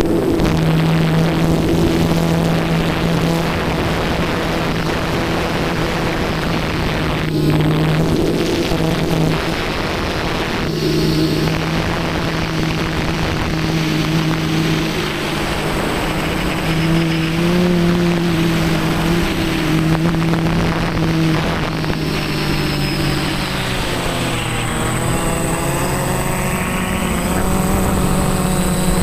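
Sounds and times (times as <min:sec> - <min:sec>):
model airplane motor humming: 0:00.0 - 0:29.0
wind rushing over microphone: 0:00.0 - 0:29.0.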